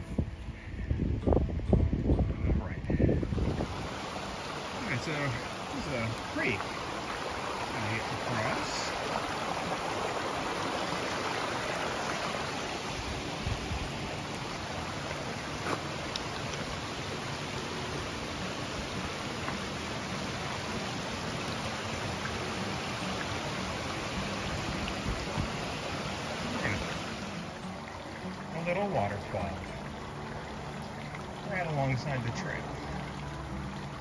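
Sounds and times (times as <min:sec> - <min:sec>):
creek rushing over stones: 0:03.0 - 0:34.0.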